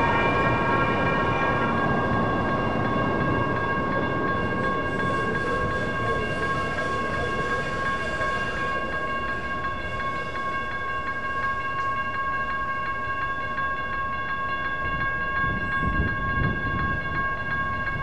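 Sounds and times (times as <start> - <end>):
light rail train rumbling: 0.0 - 18.0
railroad crossing bell ringing: 0.0 - 18.0.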